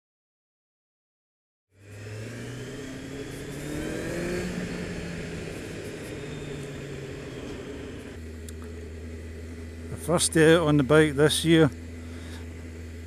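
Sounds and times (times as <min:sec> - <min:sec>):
motorcycle engine accelerating: 0:01.7 - 0:13.0.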